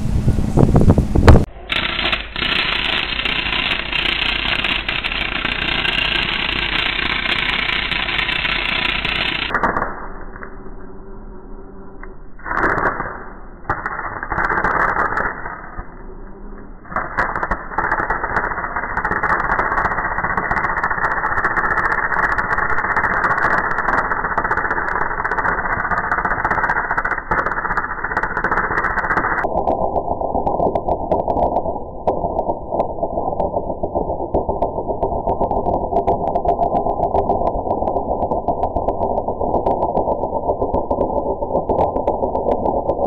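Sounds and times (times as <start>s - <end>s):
slowed arc welding crackle: 0.0s - 43.0s.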